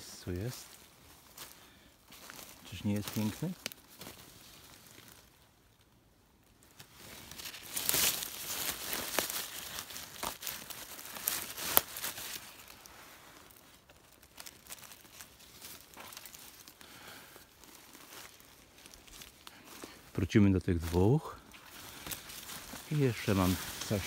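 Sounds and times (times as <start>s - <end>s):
dry leaves and twigs rustling: 0.0s - 24.0s
twigs snapping: 1.4s - 5.9s, 6.6s - 20.0s, 20.8s - 24.0s.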